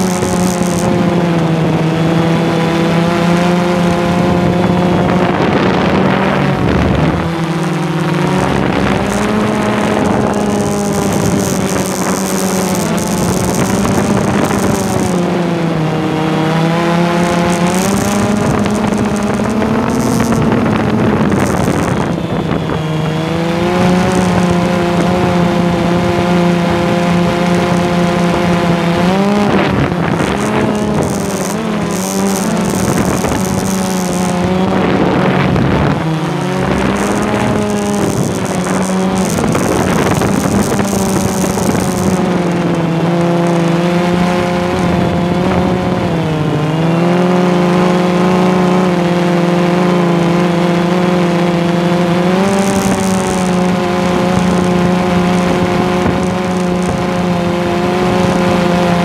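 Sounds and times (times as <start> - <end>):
model airplane motor running: 0.0 - 59.0.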